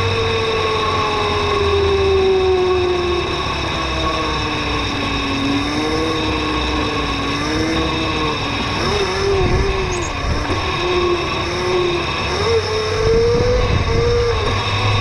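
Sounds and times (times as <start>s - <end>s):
mini bike motor running: 0.0s - 15.0s.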